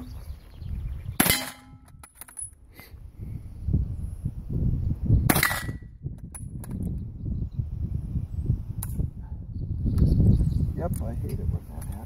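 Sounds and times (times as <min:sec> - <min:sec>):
wind rumble on microphone: 0:00.0 - 0:02.0, 0:02.9 - 0:12.0.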